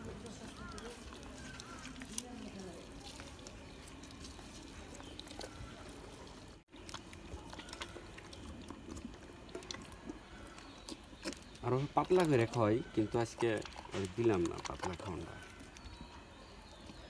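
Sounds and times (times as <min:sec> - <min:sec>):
goat munching feed: 0:00.0 - 0:17.0.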